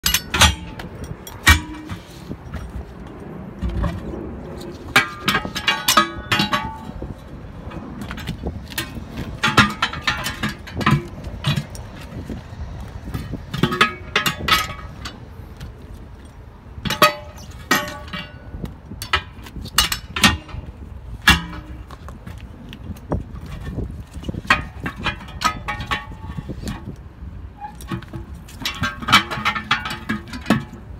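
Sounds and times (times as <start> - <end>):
tire iron clanking on steel wheel: 0.0 - 30.9.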